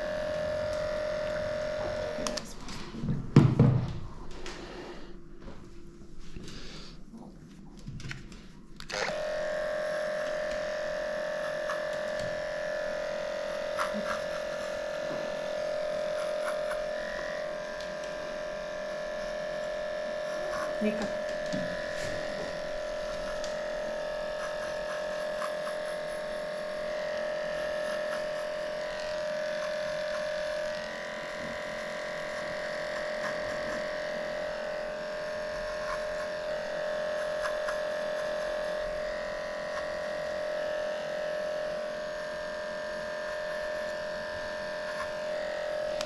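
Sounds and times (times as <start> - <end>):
electric clipper shaving fur: 0.0 - 4.9, 8.8 - 46.0.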